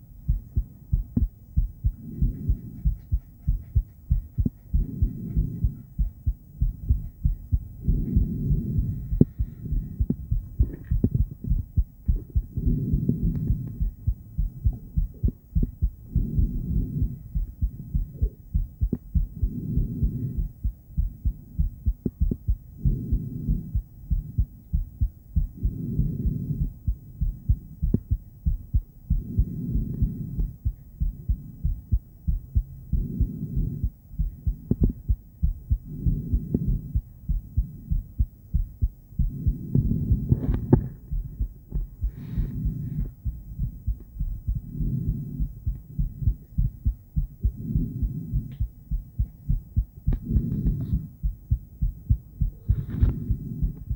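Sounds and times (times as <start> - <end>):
doppler heartbeat whooshing pulses: 0.0 - 53.9.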